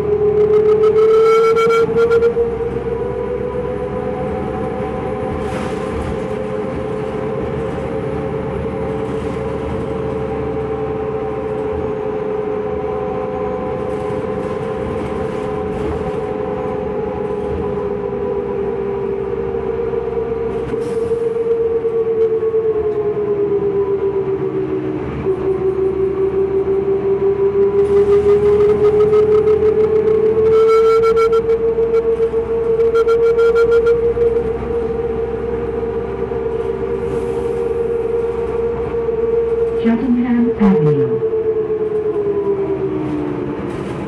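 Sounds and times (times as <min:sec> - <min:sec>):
bus engine whine: 0:00.0 - 0:44.0
engine and road rumble: 0:00.0 - 0:44.0.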